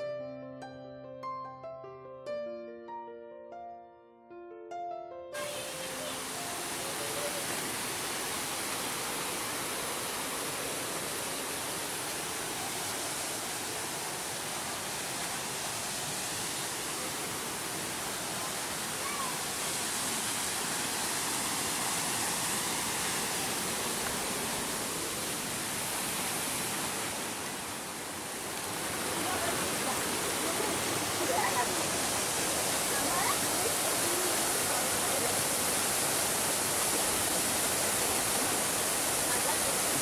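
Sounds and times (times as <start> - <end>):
waterfall rushing: 5.4 - 40.0.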